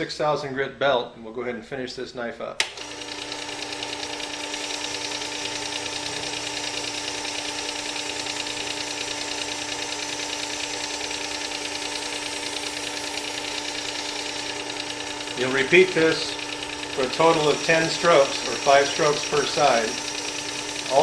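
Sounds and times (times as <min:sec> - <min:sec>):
electric sharpener motor humming: 0:02.6 - 0:21.0.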